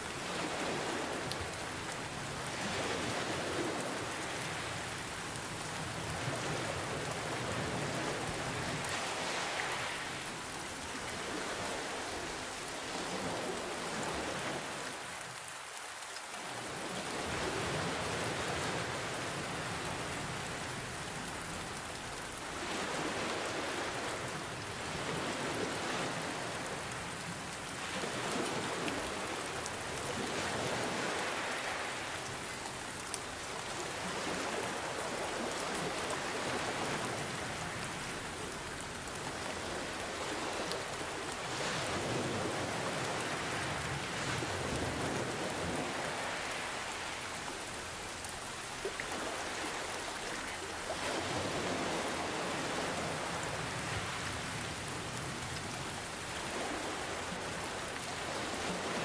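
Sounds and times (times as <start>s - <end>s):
ocean waves washing: 0.0s - 15.3s, 16.5s - 59.0s
rain: 0.0s - 59.0s.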